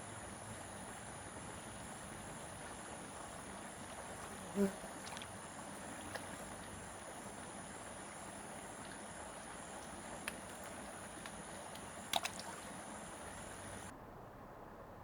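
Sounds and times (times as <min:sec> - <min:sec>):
steady hiss: 0:00.0 - 0:13.9.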